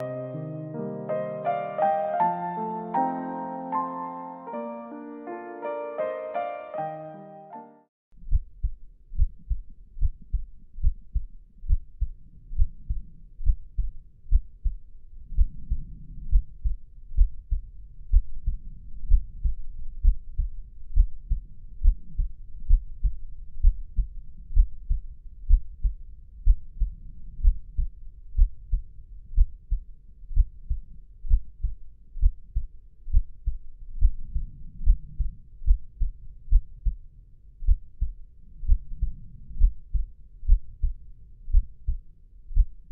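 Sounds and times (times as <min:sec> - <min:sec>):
heartbeat thumps: 0:08.2 - 0:42.9.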